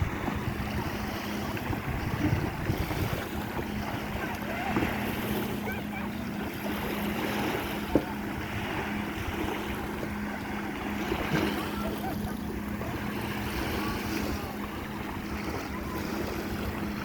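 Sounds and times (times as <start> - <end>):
water lapping: 0.0 - 17.0
wind buffeting microphone: 0.0 - 17.0.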